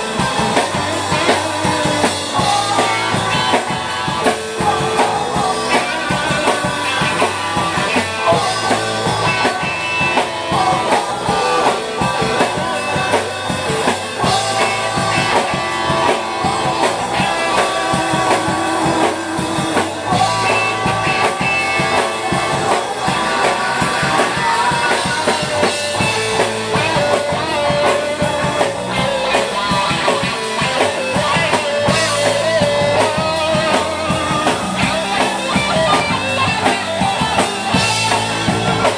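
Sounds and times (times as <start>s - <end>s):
man and woman singing: 0.0s - 34.4s
drum kit: 0.0s - 38.9s
electric guitars: 0.0s - 38.9s.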